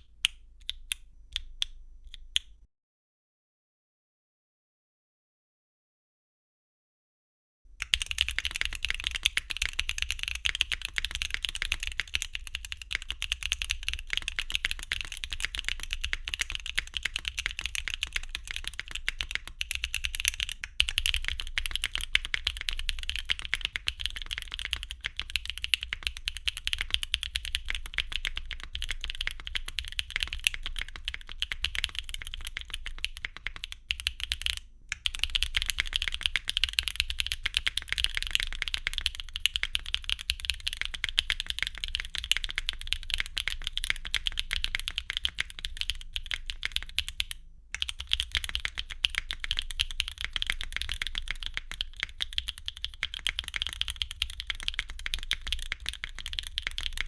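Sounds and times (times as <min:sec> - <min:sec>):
mechanical keyboard typing: 0:07.8 - 0:57.0.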